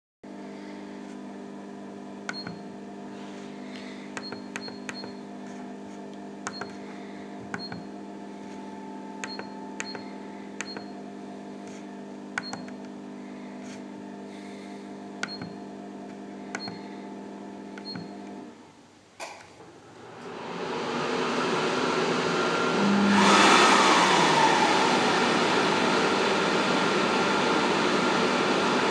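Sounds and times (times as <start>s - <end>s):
steady instrument hum: 0.3s - 28.9s.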